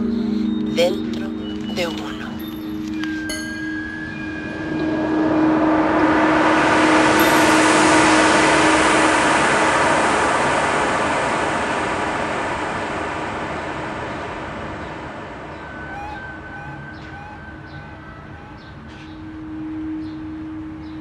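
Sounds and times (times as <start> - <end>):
steady hum tones: 0.0 - 21.0
vehicle road noise: 0.0 - 21.0.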